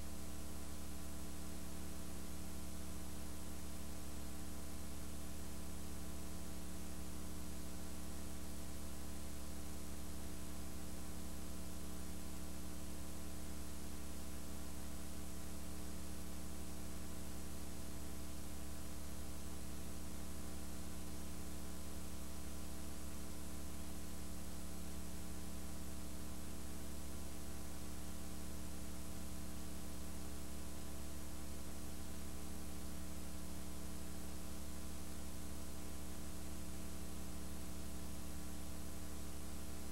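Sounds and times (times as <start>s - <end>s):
mains hum: 0.0s - 39.9s.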